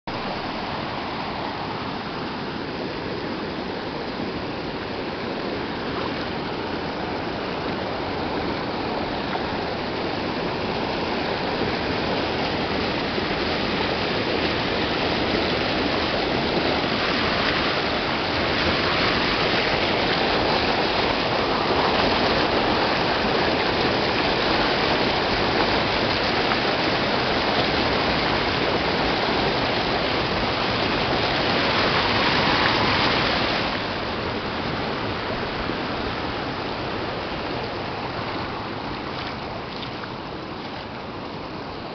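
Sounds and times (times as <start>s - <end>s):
water rushing over rock: 0.1s - 41.9s.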